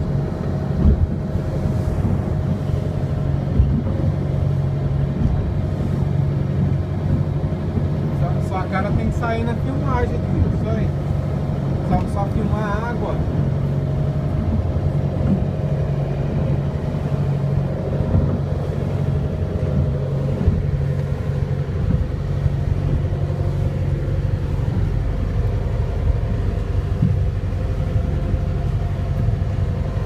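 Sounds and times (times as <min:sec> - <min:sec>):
boat engine humming: 0:00.0 - 0:30.0
wind buffeting microphone: 0:00.0 - 0:30.0.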